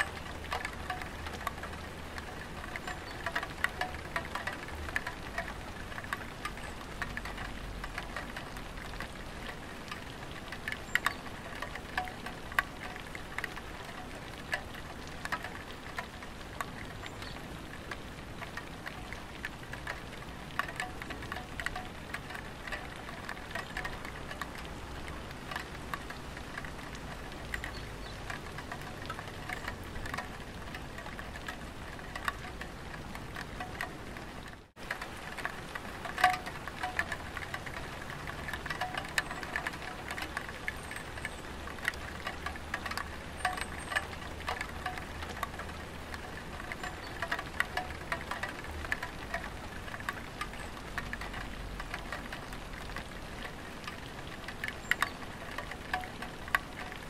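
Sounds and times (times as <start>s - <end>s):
light rain on a tiled roof: 0.0s - 57.0s.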